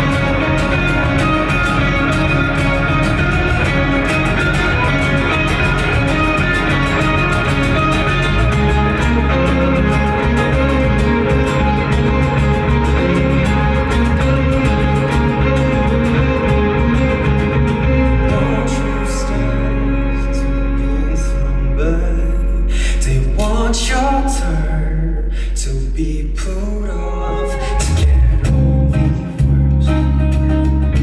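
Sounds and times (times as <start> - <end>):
live band instrumental with guitar: 0.0 - 24.8, 27.0 - 31.0.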